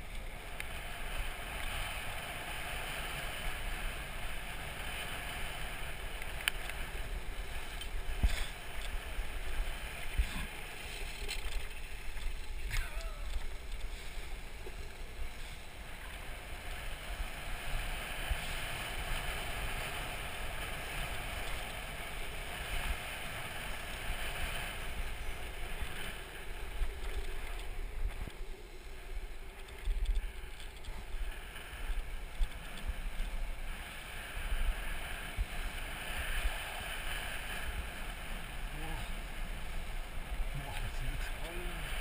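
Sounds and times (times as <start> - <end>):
wheels rolling fast on asphalt: 0.0 - 42.0
wind buffeting microphone: 0.0 - 42.0.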